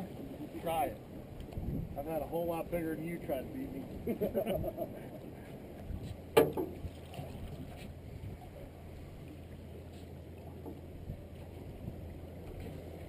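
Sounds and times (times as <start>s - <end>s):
water sloshing against boat: 0.0s - 13.0s.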